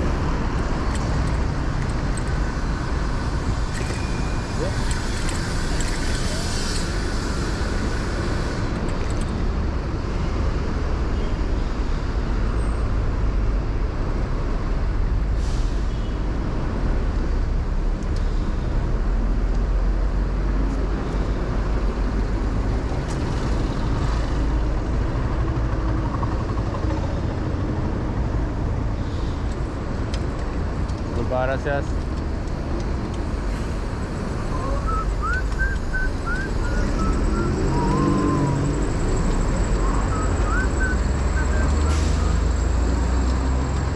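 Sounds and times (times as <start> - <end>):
street traffic: 0.0 - 43.9.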